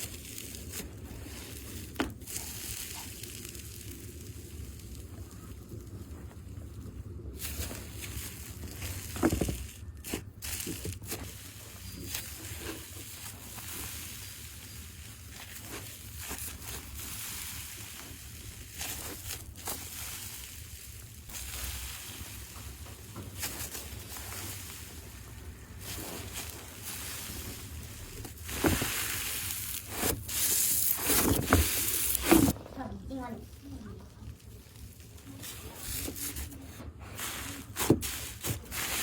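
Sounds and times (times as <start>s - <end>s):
hands squeezing slime: 0.0s - 32.6s
loud slime squish: 0.0s - 32.7s, 33.5s - 39.0s.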